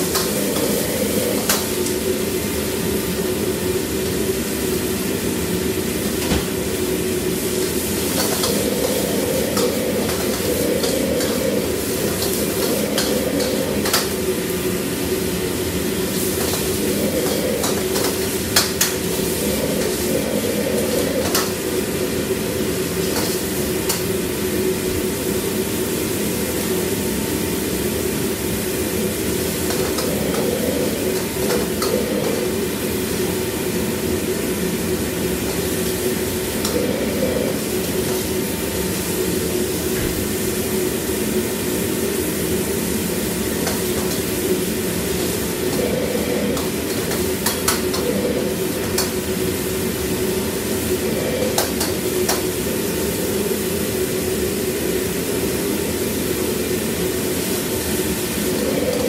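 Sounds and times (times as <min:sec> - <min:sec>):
burner roar and hum: 0:00.0 - 0:24.9, 0:28.3 - 0:40.2, 0:42.6 - 0:55.3, 0:57.7 - 0:59.0
food sizzling in a wok: 0:00.0 - 0:59.0.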